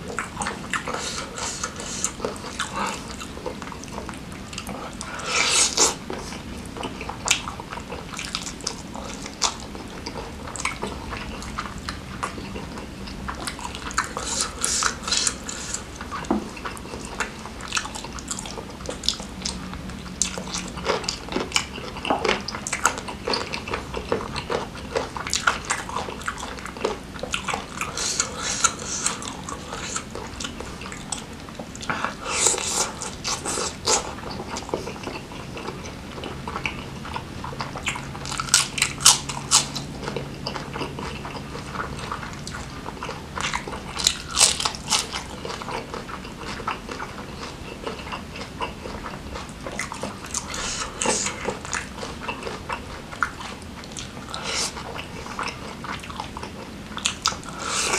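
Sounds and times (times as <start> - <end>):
chewing and biting food: 0.0 - 57.9.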